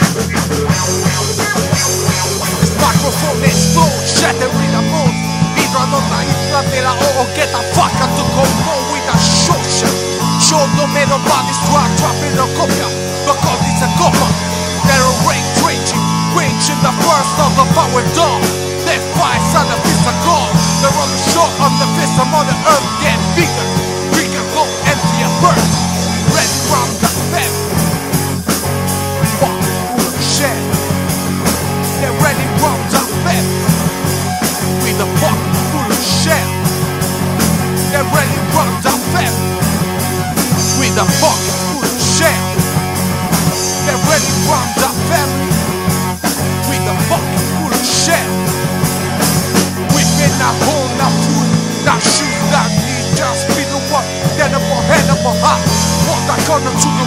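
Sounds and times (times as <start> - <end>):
distorted guitar riff: 0.0 - 57.0
drums beating steady rhythm: 0.0 - 57.0
heavy rock band playing: 0.0 - 57.0.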